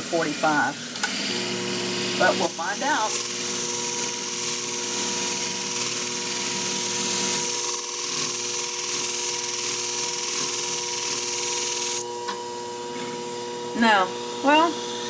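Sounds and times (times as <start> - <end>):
sharpening machine humming: 0.0 - 15.0.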